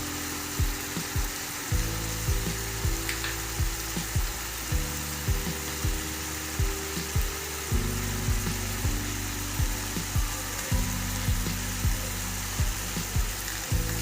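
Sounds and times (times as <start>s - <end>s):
background music with steady beat: 0.0s - 14.0s
food sizzling in a pan: 0.0s - 14.0s.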